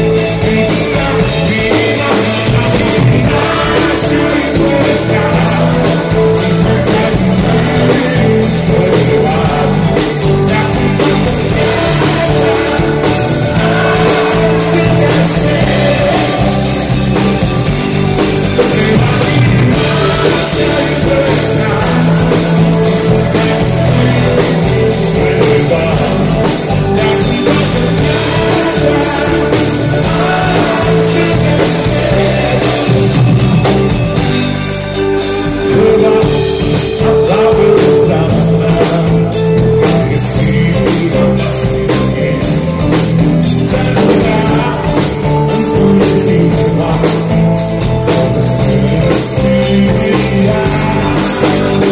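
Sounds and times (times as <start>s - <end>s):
bass guitar: 0.0s - 51.9s
drum kit: 0.0s - 51.9s
electric guitars: 0.0s - 51.9s
person singing: 0.0s - 51.9s.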